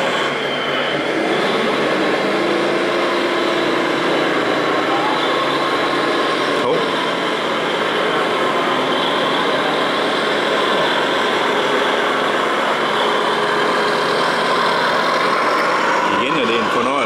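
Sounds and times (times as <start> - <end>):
constant background noise: 0.0 - 17.0
simulated truck diesel engine: 0.0 - 17.0.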